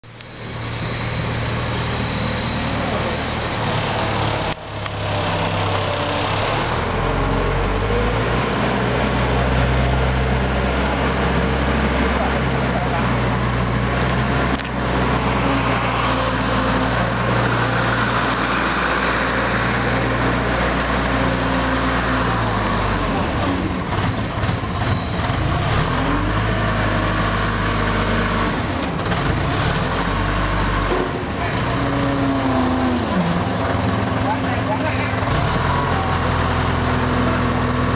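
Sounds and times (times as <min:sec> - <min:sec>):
loader engine running: 0:00.0 - 0:37.9.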